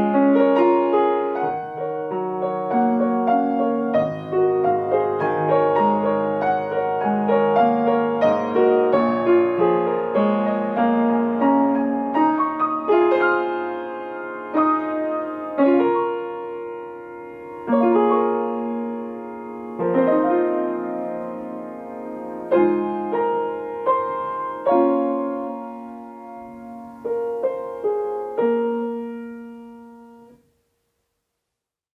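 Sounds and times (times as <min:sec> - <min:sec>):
solo piano piece: 0:00.0 - 0:31.0.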